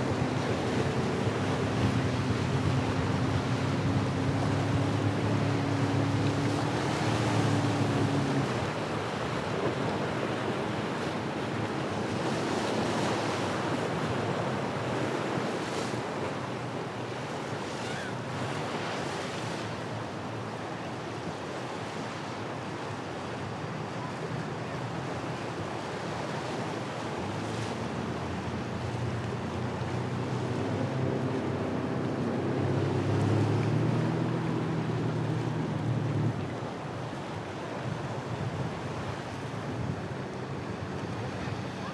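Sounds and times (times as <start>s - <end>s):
boat engine droning: 0.0s - 41.9s
waves and surf washing: 0.0s - 41.9s.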